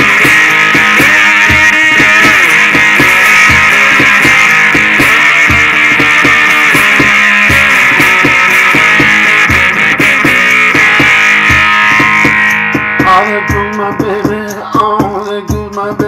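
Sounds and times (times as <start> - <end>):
electric cigar box guitar riff: 0.0 - 16.0
steady beat: 0.0 - 16.0.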